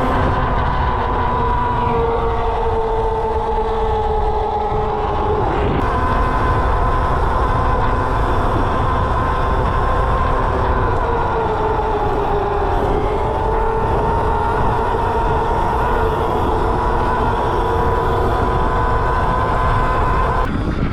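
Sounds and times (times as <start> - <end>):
electric motor whining: 0.0 - 20.6.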